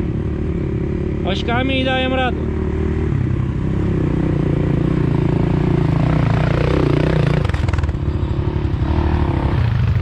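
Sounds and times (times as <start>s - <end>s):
quad engine running: 0.0s - 10.0s.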